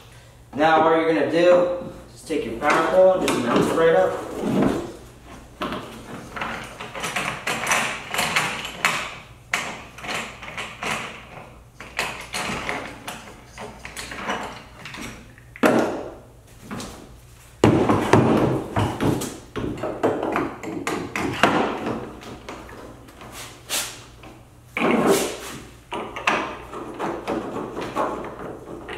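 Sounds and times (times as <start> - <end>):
hard plastic parts knocking and scraping: 2.6 - 16.1, 17.6 - 23.4, 24.2 - 28.9.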